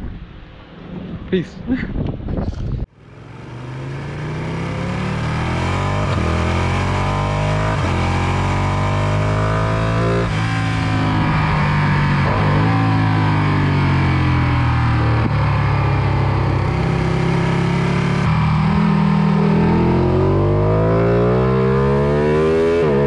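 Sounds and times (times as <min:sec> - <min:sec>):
motorcycle engine accelerating: 0:02.6 - 0:23.0.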